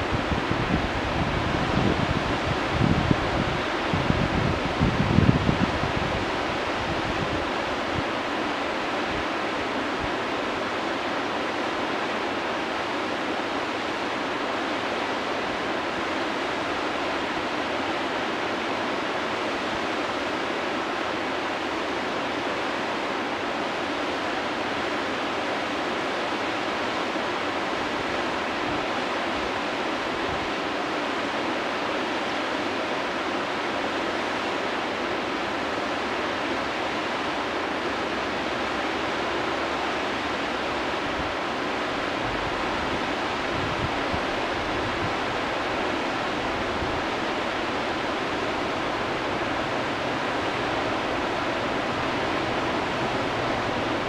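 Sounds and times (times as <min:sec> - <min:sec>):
whitewater rapids roaring: 0:00.0 - 0:54.0.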